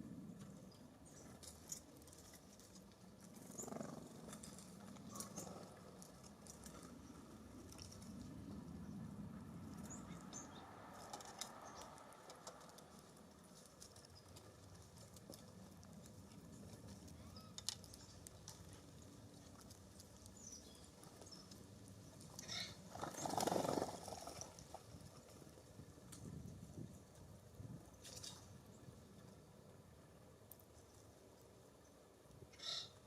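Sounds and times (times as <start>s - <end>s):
birds pecking and scrabbling: 0.0s - 33.0s.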